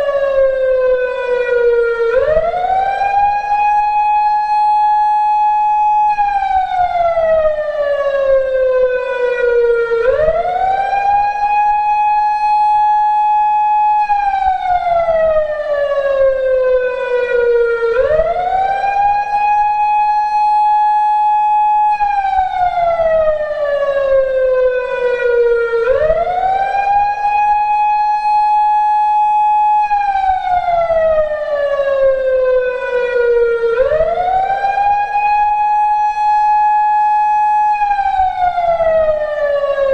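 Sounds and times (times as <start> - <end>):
electronic siren wail: 0.0 - 39.9.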